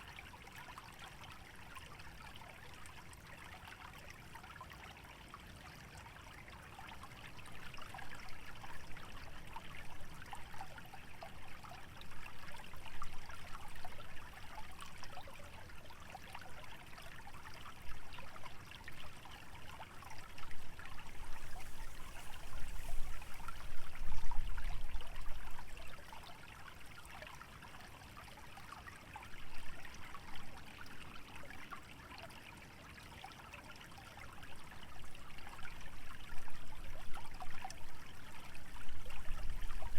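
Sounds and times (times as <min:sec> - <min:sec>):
stream trickling and bubbling: 0:00.0 - 0:39.9.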